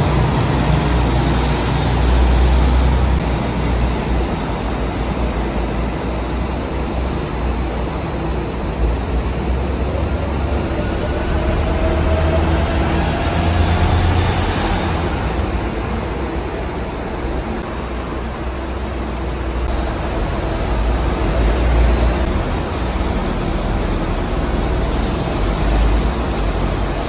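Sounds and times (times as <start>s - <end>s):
bus engines rumbling past: 0.0s - 27.0s
road traffic noise: 0.0s - 27.0s.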